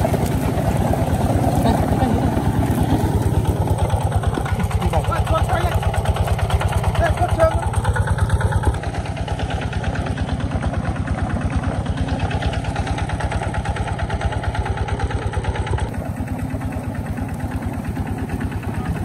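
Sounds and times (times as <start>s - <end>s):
water pump engine running: 0.0s - 19.0s.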